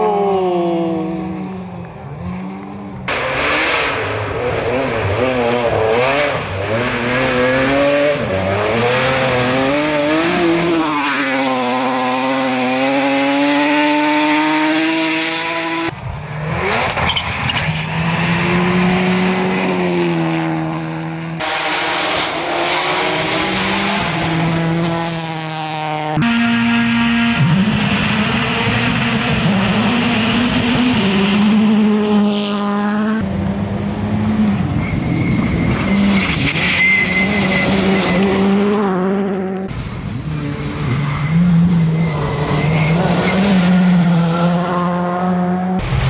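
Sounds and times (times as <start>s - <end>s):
rally car engines accelerating: 0.0s - 46.0s.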